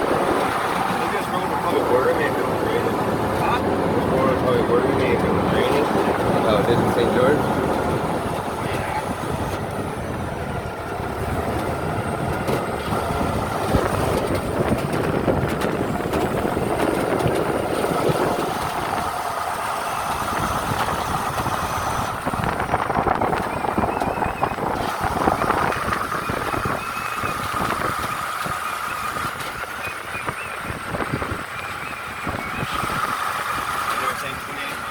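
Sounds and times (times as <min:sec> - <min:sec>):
vehicle rumbling in motion: 0:00.0 - 0:34.9.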